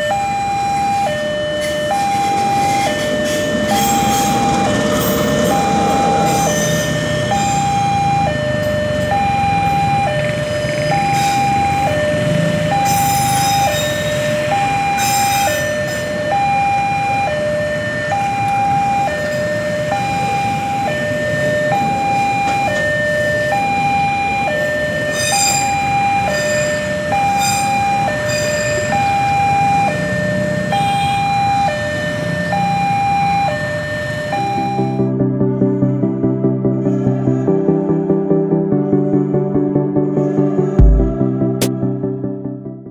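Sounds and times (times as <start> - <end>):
motorcycle engines: 0.0 - 35.2
two-tone crossing alarm: 0.0 - 35.2
traffic: 0.0 - 37.8.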